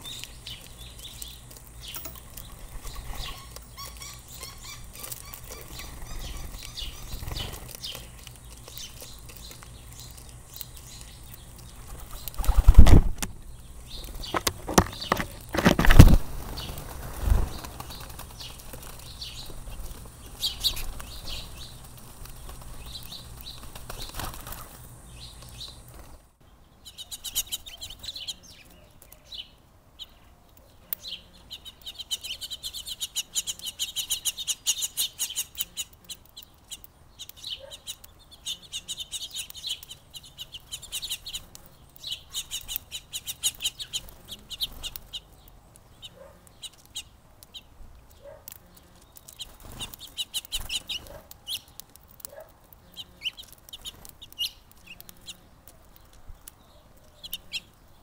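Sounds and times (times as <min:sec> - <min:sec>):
small songbirds chirping: 0:00.0 - 0:58.0.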